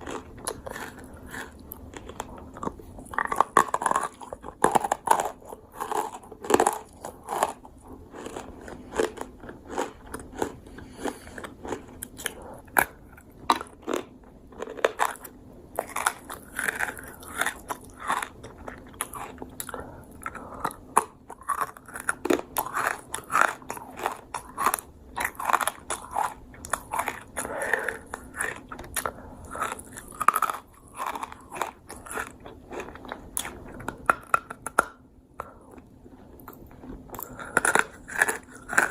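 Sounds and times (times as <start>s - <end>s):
crunchy dried fruit chewing: 0.0s - 38.9s.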